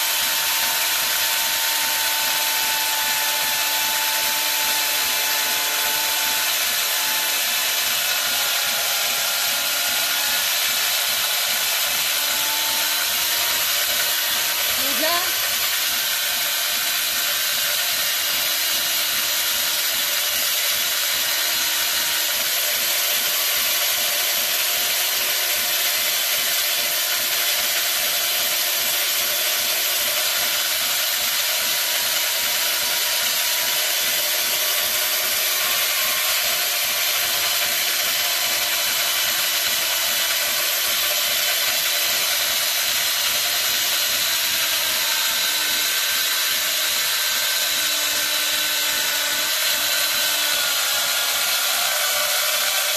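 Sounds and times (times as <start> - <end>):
electric chainsaw cutting stone: 0.0 - 52.9.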